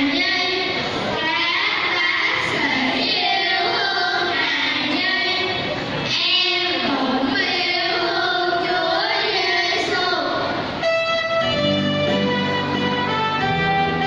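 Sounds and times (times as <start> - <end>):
children's choir singing a carol: 0.0 - 14.0.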